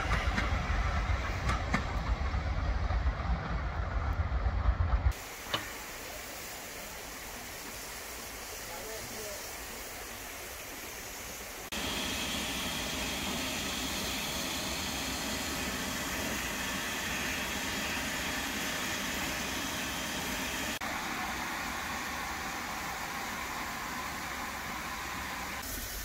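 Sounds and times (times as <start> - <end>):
steam locomotive hissing steam: 0.0 - 2.3, 5.1 - 26.0.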